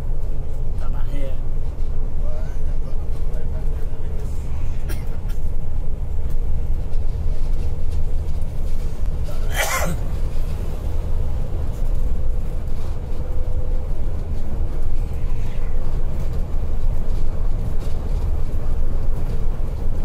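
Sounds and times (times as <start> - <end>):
coach engine and road rumble: 0.0 - 20.0.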